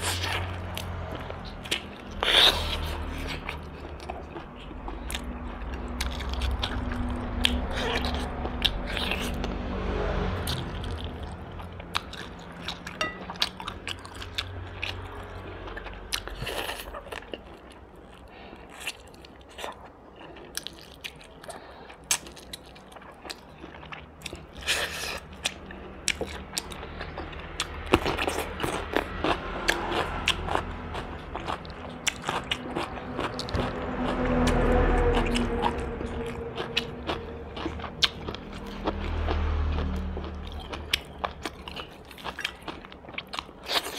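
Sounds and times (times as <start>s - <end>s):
chewing and crunching food: 0.0s - 43.9s.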